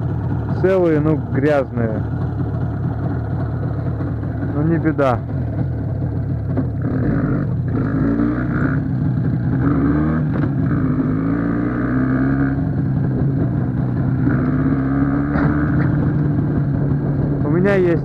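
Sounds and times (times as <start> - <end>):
two-stroke motorcycle engine: 0.0 - 18.0.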